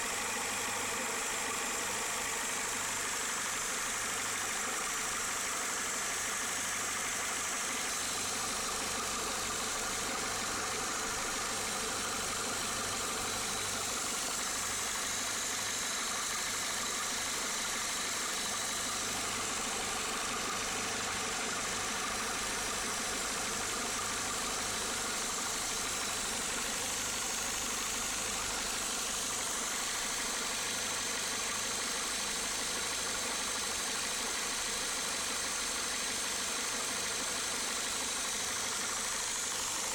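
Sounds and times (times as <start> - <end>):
car engine idling: 0.0 - 32.7, 33.3 - 39.9.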